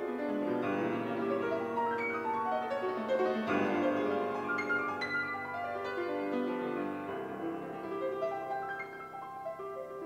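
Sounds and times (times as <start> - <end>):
slow solo piano melody: 0.0 - 10.0.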